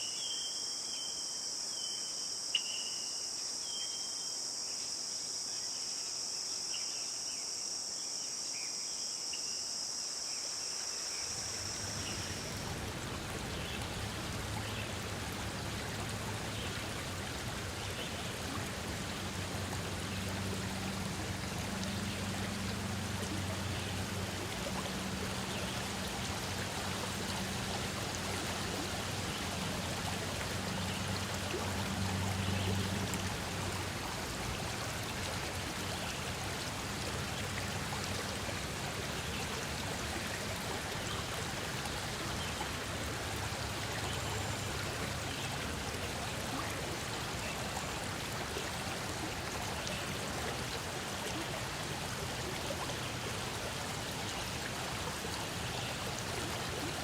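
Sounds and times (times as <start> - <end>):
stream water flowing and splashing: 8.9 - 57.0.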